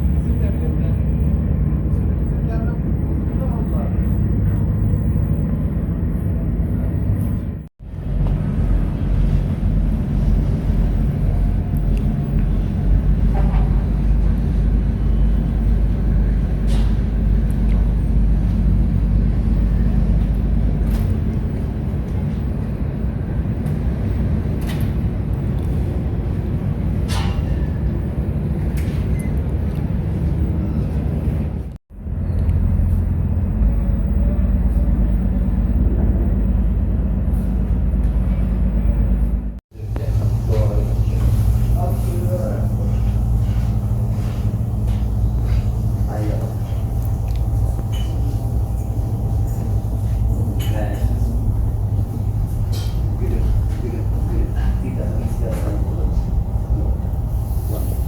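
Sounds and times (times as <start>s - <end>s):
vehicle rumble from inside: 0.0s - 58.0s.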